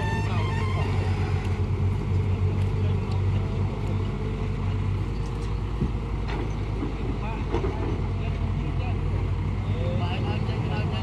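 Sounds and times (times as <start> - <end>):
heavy diesel engines droning: 0.0 - 11.0.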